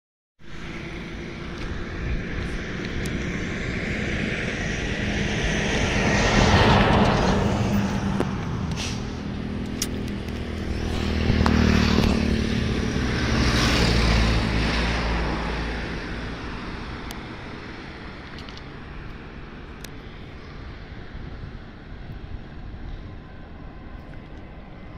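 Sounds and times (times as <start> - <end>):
passing vehicle rumble: 0.4 - 24.9.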